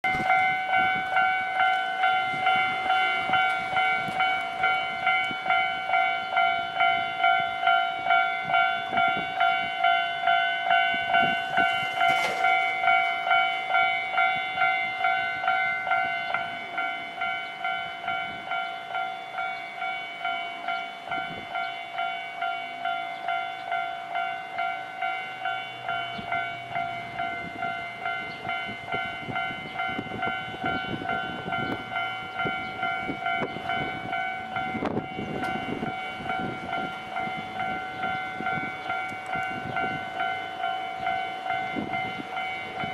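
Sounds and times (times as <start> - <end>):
level crossing alarm clanging: 0.0 - 42.9.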